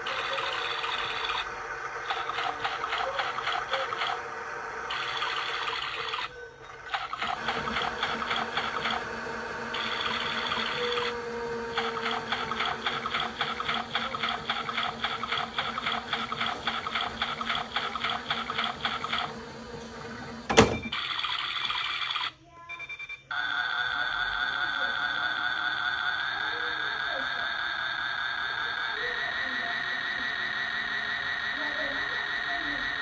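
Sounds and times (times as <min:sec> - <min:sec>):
washing machine running: 0:00.0 - 0:22.4, 0:23.3 - 0:33.0.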